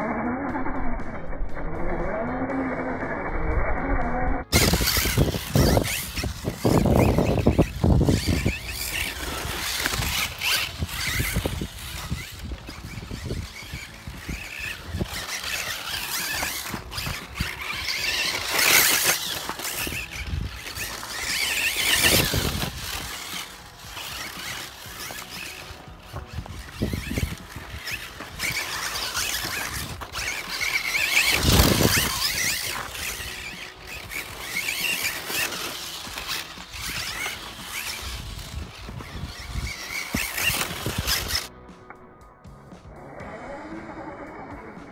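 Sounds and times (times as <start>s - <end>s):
rc car motor whine: 0.0s - 41.5s
tyres scrabbling on dirt: 4.5s - 41.5s.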